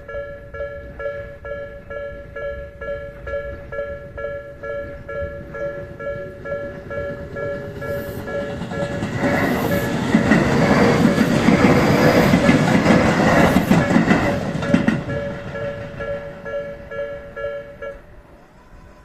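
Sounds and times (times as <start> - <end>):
train wheels rumbling and clattering: 0.0 - 18.0
railroad crossing warning bell: 0.0 - 19.0.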